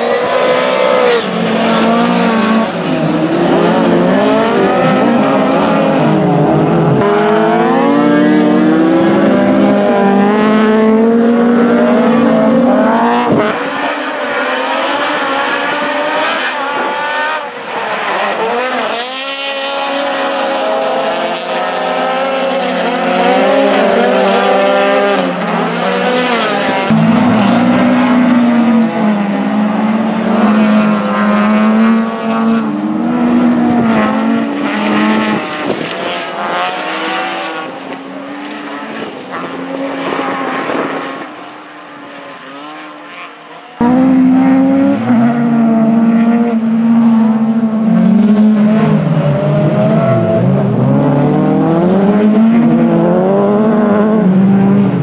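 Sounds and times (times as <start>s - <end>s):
race car engines at full throttle: 0.0s - 55.0s.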